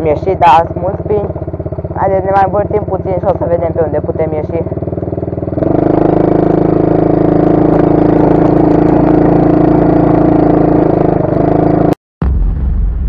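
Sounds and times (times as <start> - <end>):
atv engine running at high revs: 0.0 - 12.0.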